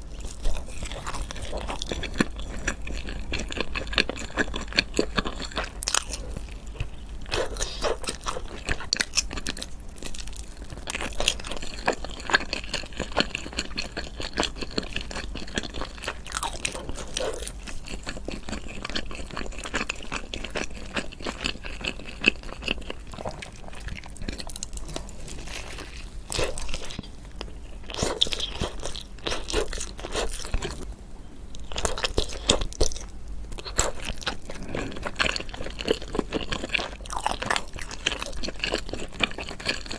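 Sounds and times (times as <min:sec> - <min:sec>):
person chewing crunchy food: 0:00.0 - 0:30.9, 0:31.5 - 0:39.9.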